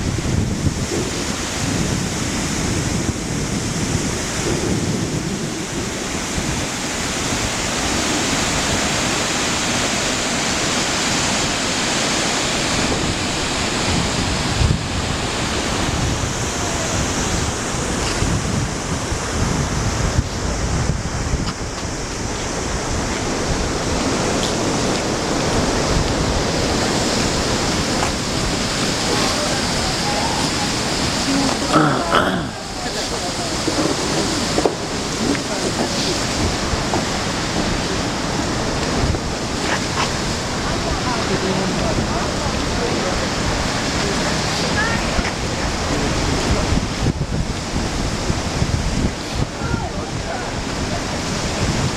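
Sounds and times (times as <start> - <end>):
waterfall roaring: 0.0 - 51.9
wind buffeting microphone: 0.0 - 51.9.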